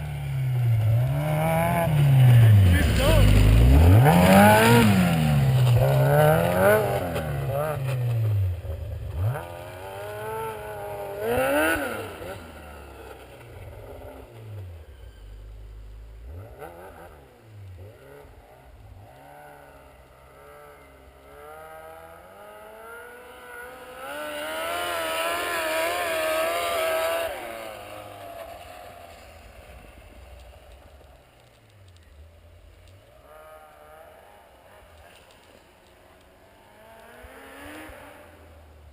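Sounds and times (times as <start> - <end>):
snowmobile engine passing by: 0.0 - 15.2, 16.3 - 31.5, 33.0 - 35.8, 36.4 - 38.9.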